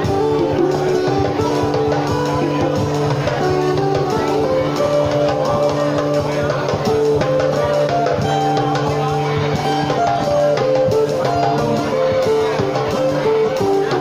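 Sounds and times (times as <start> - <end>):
drum kit: 0.0 - 14.0
guitar melody: 0.0 - 14.0.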